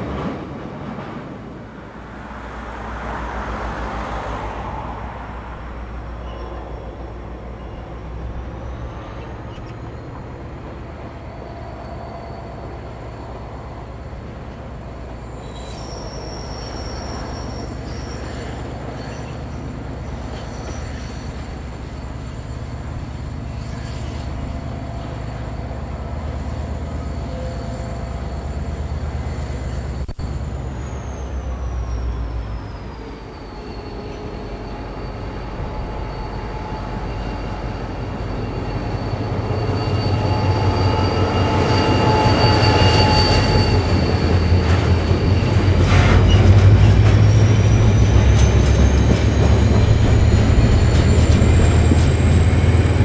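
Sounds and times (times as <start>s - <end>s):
diesel locomotive rumble: 0.0s - 53.0s.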